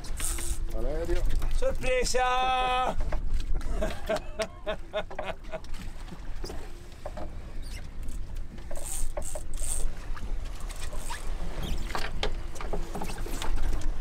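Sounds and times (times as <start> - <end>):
boat low rumble: 0.0 - 14.0.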